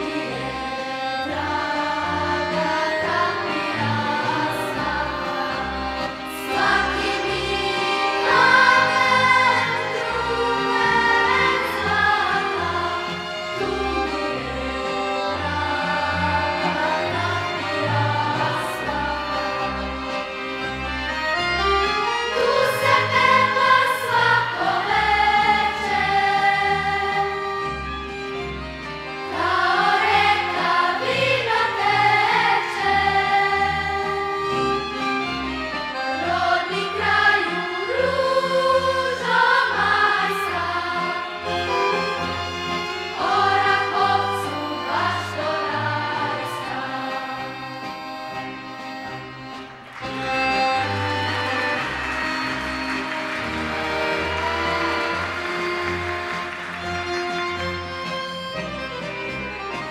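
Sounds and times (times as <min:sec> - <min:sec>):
choir singing folk song: 0:00.0 - 0:59.9.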